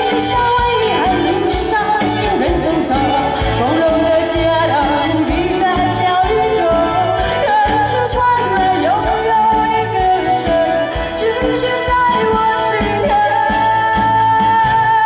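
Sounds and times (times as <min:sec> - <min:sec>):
live band playing: 0:00.0 - 0:15.0
woman singing into microphone: 0:00.0 - 0:15.0.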